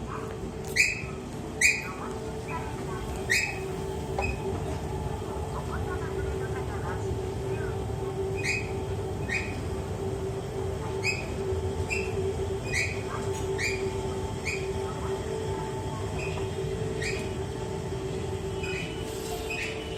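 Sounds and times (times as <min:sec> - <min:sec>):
escalator humming: 0:01.0 - 0:19.9.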